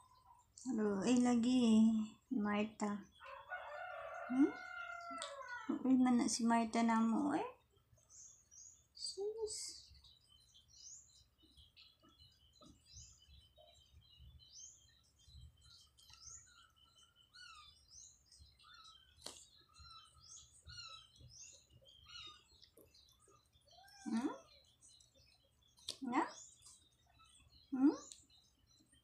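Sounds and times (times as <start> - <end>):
small birds chirping faintly: 0.0 - 29.0.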